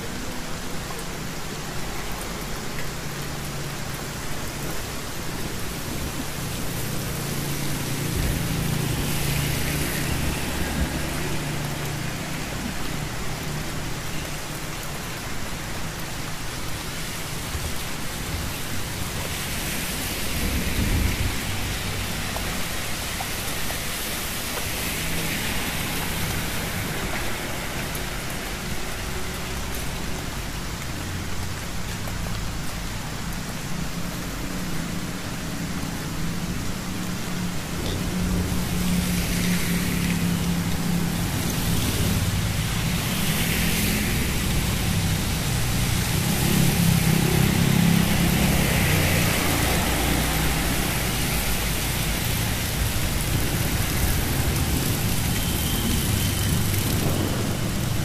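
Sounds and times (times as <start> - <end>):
rain hissing on a wet street: 0.0 - 58.0
rain pattering on an umbrella: 0.0 - 58.0.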